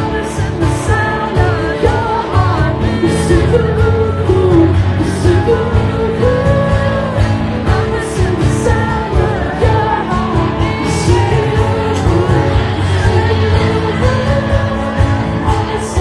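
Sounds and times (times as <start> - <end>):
pop-rock band playing: 0.0 - 16.0.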